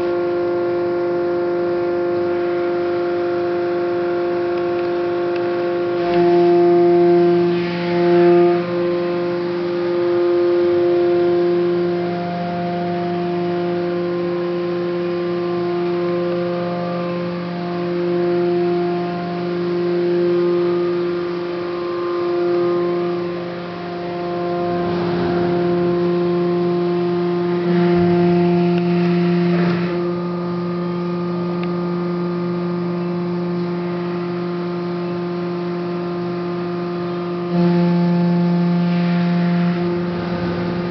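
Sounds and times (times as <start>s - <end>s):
hydraulic drive humming: 0.0s - 40.9s.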